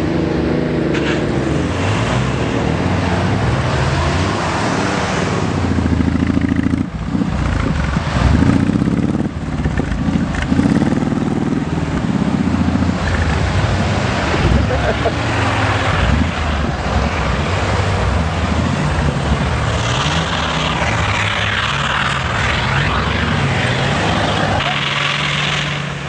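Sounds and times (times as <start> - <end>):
engine revving: 0.0 - 26.0.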